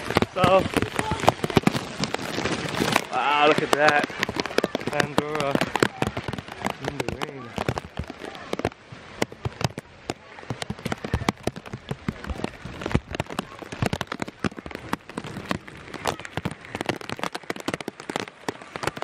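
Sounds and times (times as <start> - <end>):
rain tapping on plastic bag: 0.0 - 19.0.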